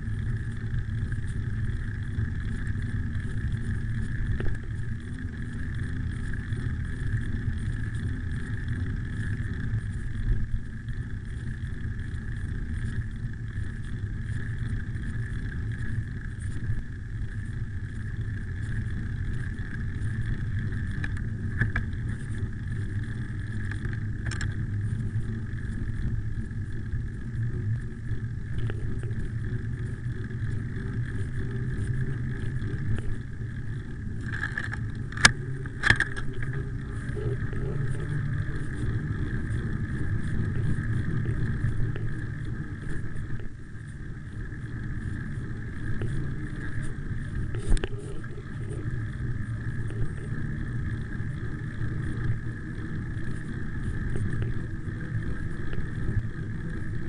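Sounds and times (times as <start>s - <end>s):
bicycle rattling over bumps: 0.0s - 47.5s
bicycle tyres rumbling on asphalt: 0.0s - 57.0s
faint high whine: 0.0s - 57.0s
wind over microphone: 0.0s - 57.0s.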